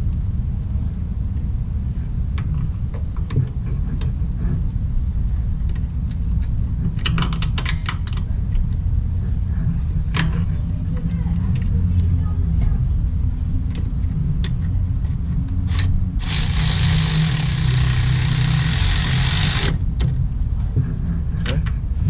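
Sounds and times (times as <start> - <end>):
steady low rumble: 0.0 - 7.2, 8.1 - 22.0.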